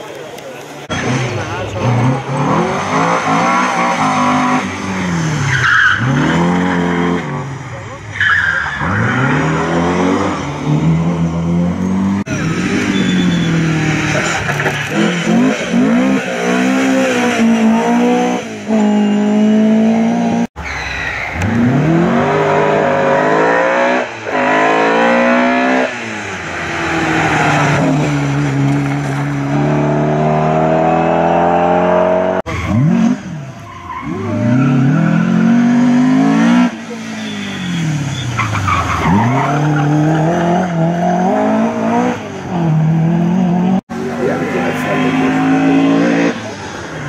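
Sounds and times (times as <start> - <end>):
rally car engine revving: 0.0 - 20.6, 21.2 - 47.0.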